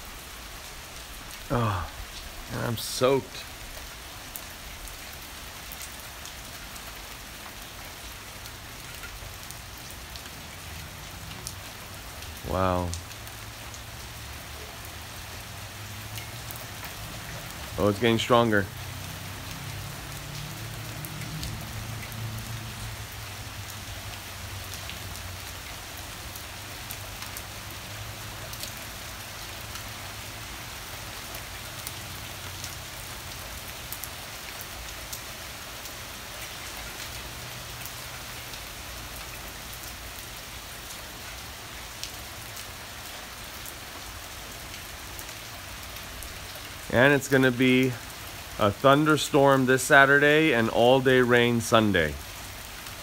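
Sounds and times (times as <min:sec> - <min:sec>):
heavy rain pouring: 0:00.0 - 0:53.0
raindrops ticking: 0:00.2 - 0:53.0.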